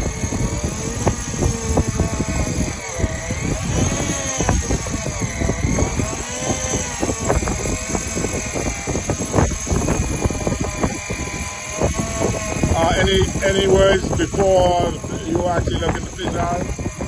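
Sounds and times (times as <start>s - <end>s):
electric fishing reel motor whining: 0.0s - 17.0s
wind buffeting microphone: 0.0s - 17.0s.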